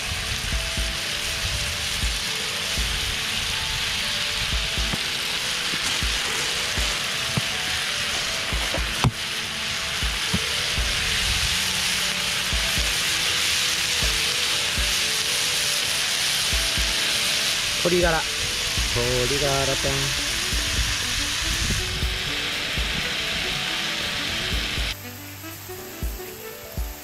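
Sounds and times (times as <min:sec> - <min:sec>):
food sizzling on griddle: 0:00.0 - 0:27.0.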